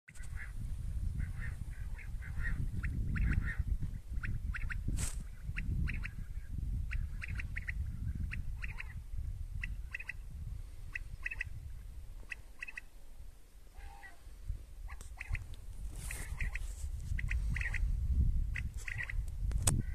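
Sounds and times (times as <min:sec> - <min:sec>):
quail calling: 0:00.1 - 0:00.6, 0:01.2 - 0:13.0, 0:13.6 - 0:19.9
wind rumble on microphone: 0:00.1 - 0:19.9.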